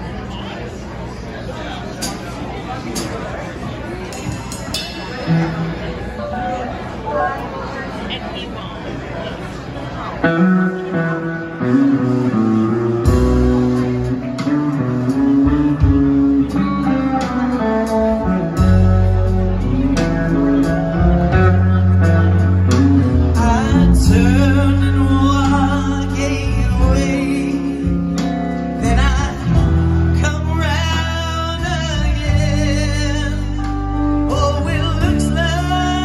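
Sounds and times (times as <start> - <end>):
live rock band playing: 2.0 - 8.1, 10.2 - 36.0.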